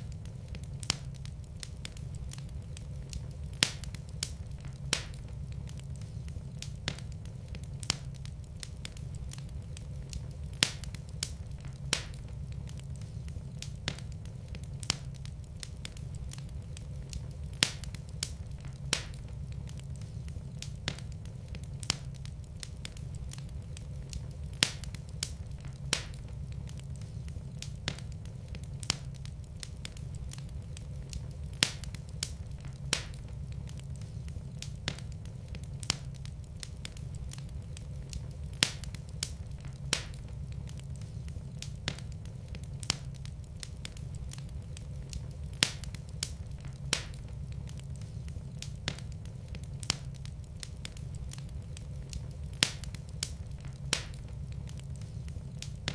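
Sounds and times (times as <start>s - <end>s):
fireplace fire crackling: 0.0s - 55.9s
low rumble of flames: 0.0s - 55.9s
sharp fire pops: 0.0s - 55.9s.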